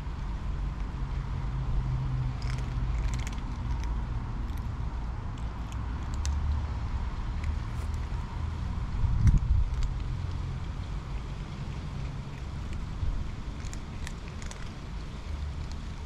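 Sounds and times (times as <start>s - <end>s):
steady low rumble: 0.0s - 15.4s
cats crunching dry food: 0.1s - 6.4s, 7.4s - 8.3s, 9.1s - 16.0s.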